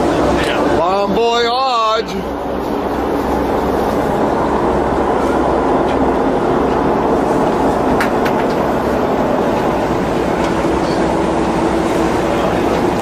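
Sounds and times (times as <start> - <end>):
boat engine drone: 0.0 - 13.0
water noise: 0.0 - 13.0
wind: 0.0 - 13.0.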